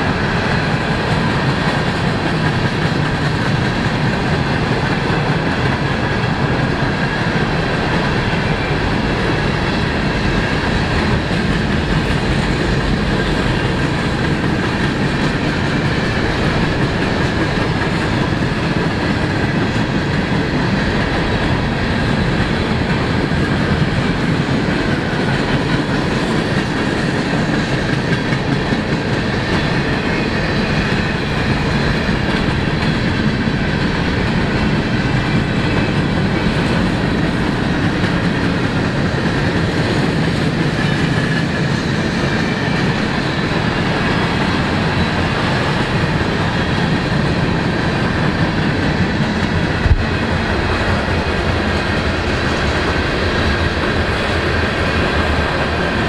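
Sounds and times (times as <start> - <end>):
train wheels clattering on rail: 0.0 - 56.0.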